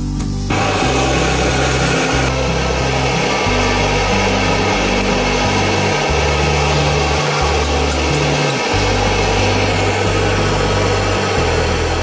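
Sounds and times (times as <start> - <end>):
background music with bass line: 0.0 - 12.0
gas stove burner roaring: 0.0 - 12.0.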